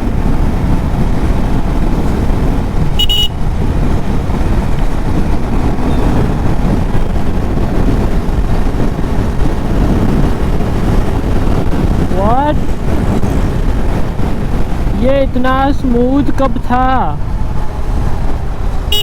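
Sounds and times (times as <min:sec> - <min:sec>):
motorcycle engine rumble: 0:00.0 - 0:19.0
wind rush on microphone: 0:00.0 - 0:19.0.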